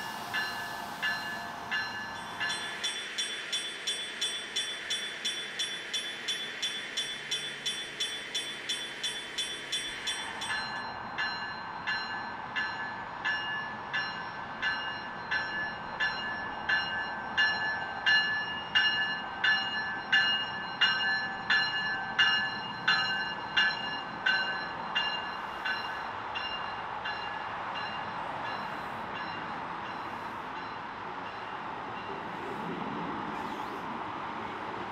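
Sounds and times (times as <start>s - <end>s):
passing train running: 0.0s - 34.9s.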